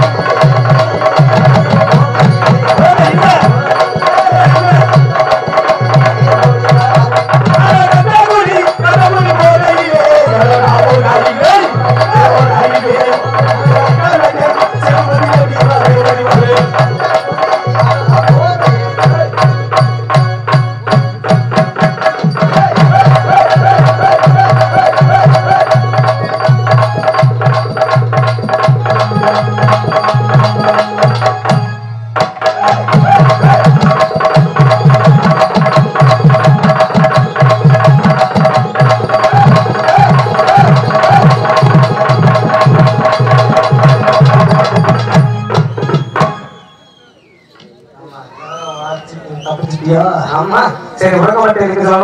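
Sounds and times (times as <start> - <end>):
hand drums beating fast rhythm: 0.0 - 46.6
held melody tones: 0.0 - 49.9.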